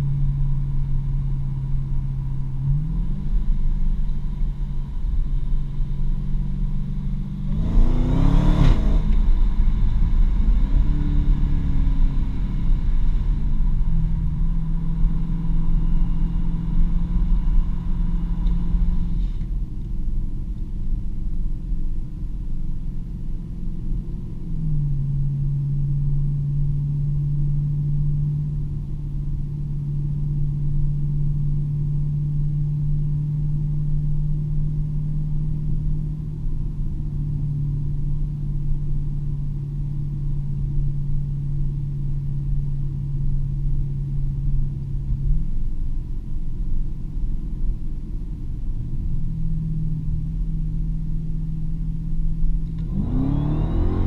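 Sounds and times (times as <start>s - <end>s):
car engine drone: 0.0s - 54.0s
road rumble: 0.0s - 54.0s.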